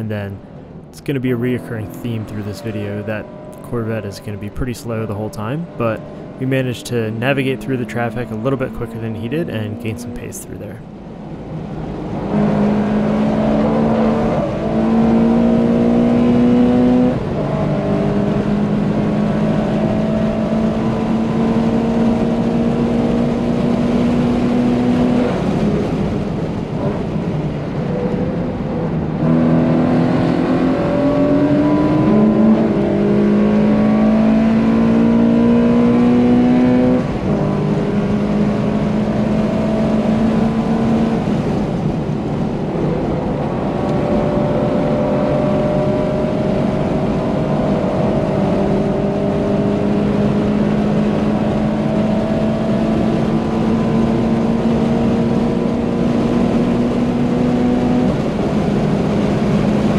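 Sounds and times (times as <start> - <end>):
car engine revving hard: 1.0 - 10.8, 11.8 - 59.9.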